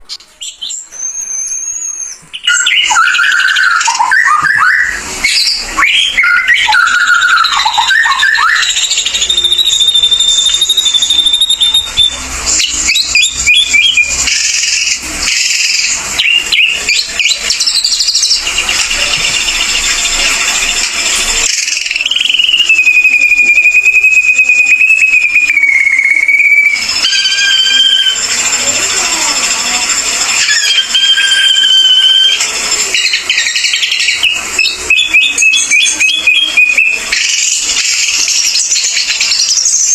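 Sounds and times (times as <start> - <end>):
bird singing whistles and chatter: 0.0 - 39.9.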